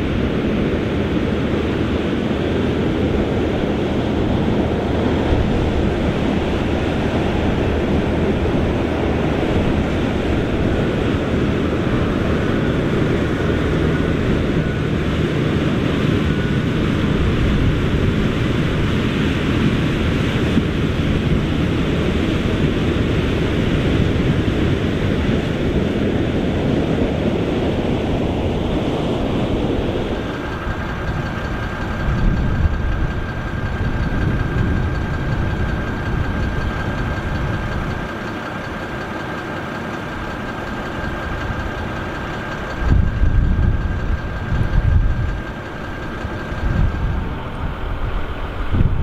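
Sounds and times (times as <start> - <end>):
tractor engine under heavy load: 0.0 - 49.0.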